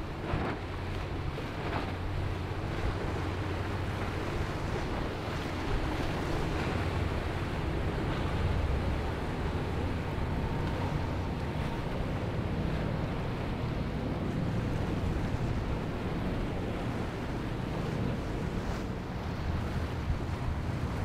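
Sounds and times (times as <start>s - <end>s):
boat outboard motors: 0.0s - 21.0s
waves and surf: 0.0s - 21.0s
wind buffeting microphone: 0.0s - 21.0s.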